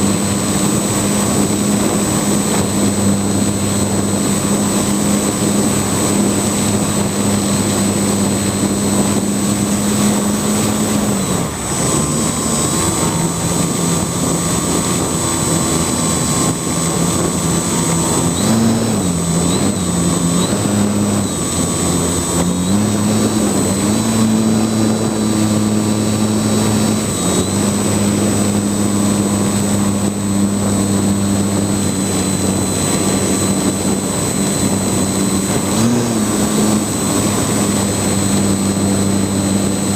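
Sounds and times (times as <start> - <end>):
drone motors and propellers humming: 0.0 - 39.9
wind noise: 0.0 - 39.9.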